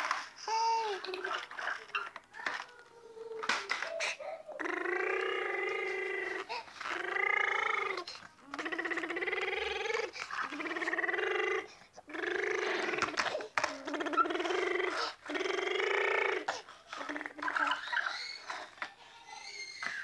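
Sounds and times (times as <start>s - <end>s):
toddler making engine sounds: 2.4s - 20.0s.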